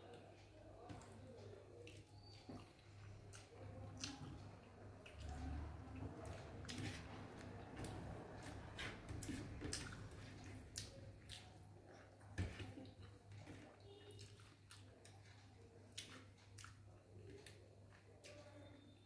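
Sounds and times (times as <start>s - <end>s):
fingers squishing food on a plate: 0.1s - 18.5s
chewing: 0.1s - 18.9s.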